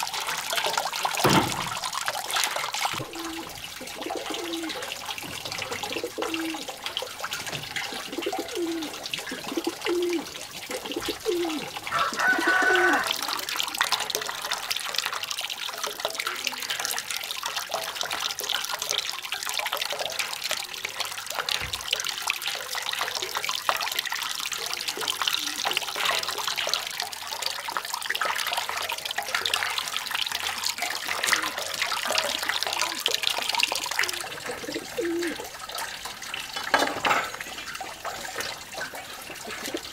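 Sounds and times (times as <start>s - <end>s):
splashing of vegetables being washed: 0.0s - 39.9s
water running into metal basin: 0.0s - 39.9s.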